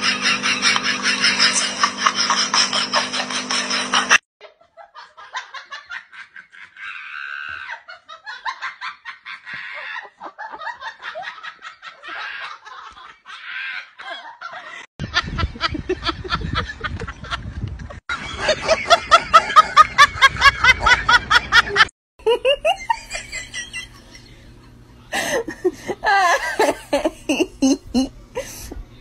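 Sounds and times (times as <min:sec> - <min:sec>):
people laughing: 0:00.0 - 0:17.4, 0:18.1 - 0:28.8.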